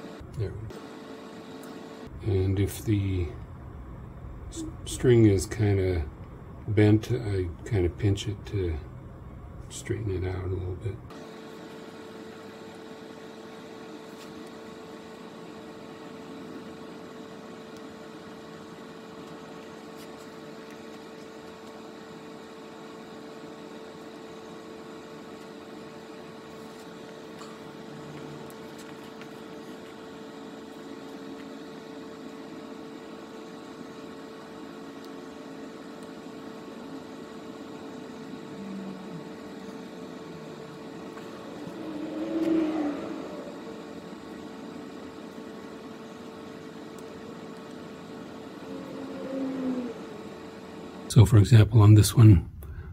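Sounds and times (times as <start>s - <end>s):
steady mid-pitched hum: 0.0s - 52.9s.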